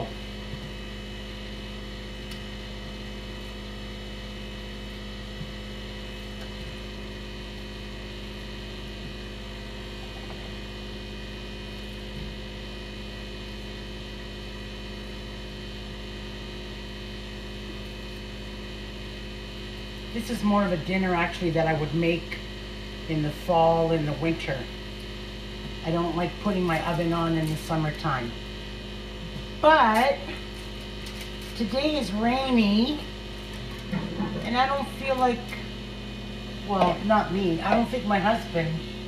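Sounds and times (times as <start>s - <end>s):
dishwasher humming: 0.0s - 22.4s, 23.0s - 39.0s.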